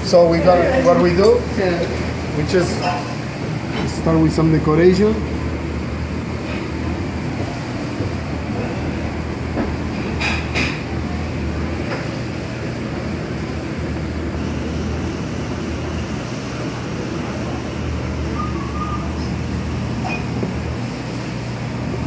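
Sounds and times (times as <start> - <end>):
low hum of fans: 0.0 - 22.0.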